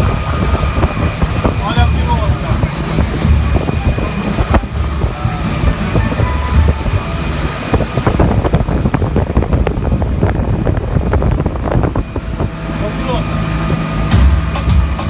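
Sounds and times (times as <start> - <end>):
motorboat engine rumble: 0.0 - 15.0
wind buffeting microphone: 0.0 - 15.0.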